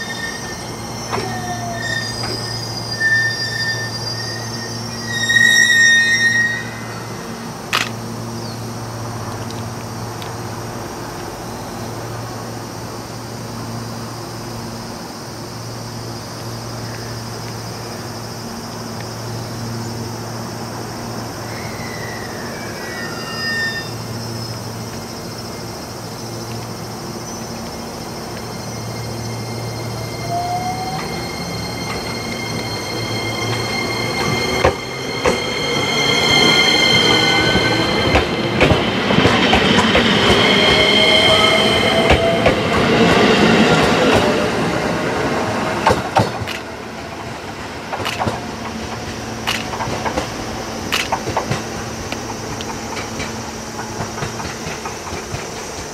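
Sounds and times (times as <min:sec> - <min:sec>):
electric train hum: 0:00.0 - 0:55.9.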